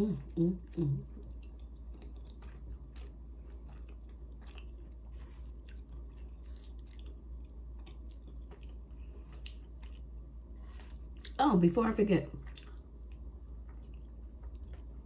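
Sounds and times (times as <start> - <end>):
chewing soft food: 0.0 - 15.0
steady low hum: 0.0 - 15.0.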